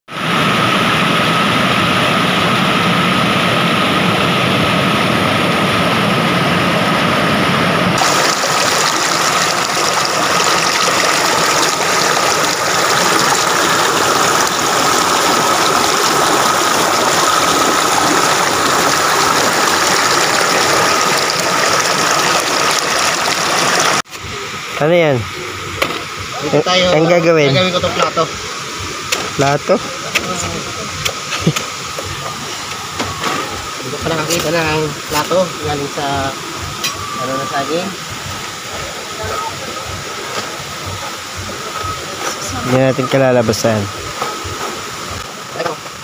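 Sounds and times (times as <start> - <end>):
water rushing over rocks: 0.1 - 46.0.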